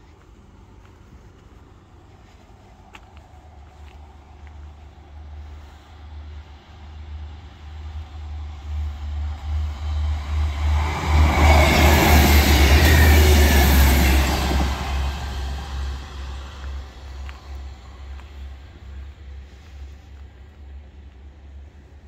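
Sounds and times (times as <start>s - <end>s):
wheel-on-rail noise: 0.0s - 22.0s
train passing at speed: 1.7s - 22.0s.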